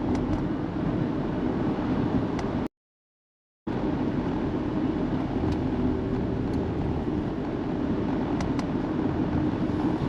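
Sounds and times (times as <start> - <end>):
car engine hum: 0.0 - 2.7, 3.7 - 10.0
road noise inside car: 0.0 - 2.7, 3.7 - 10.0.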